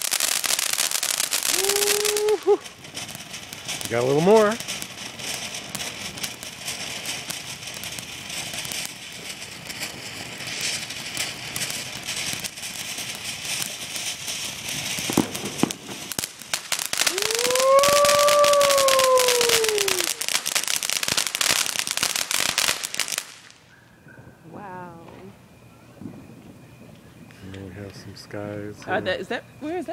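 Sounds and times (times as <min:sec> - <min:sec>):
fireworks crackling: 0:00.0 - 0:23.7, 0:24.4 - 0:29.9
firework bang: 0:00.0 - 0:24.4.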